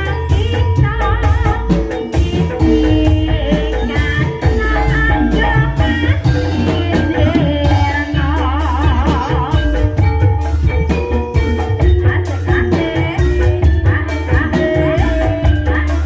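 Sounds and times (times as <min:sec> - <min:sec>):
person singing with vibrato: 0:00.0 - 0:10.2, 0:11.4 - 0:16.0
drums keeping steady beat: 0:00.0 - 0:16.0.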